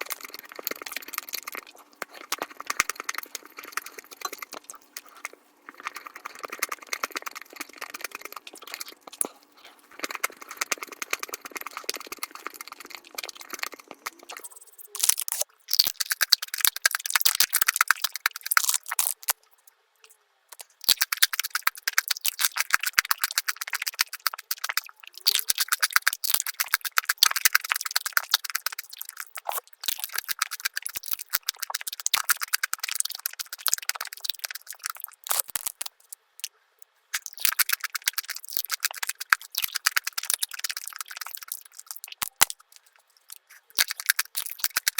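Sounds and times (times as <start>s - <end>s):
sped-up crunching and chewing: 0.0s - 19.6s, 20.5s - 36.5s, 37.1s - 44.9s.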